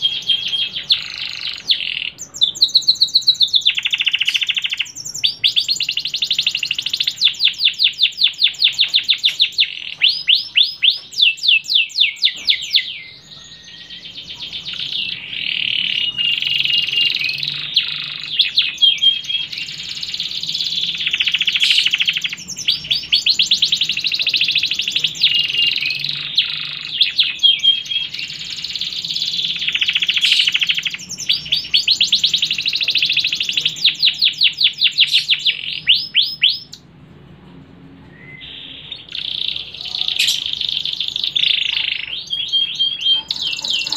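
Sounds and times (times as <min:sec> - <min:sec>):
canary singing trills: 0:00.0 - 0:36.9, 0:38.1 - 0:43.9.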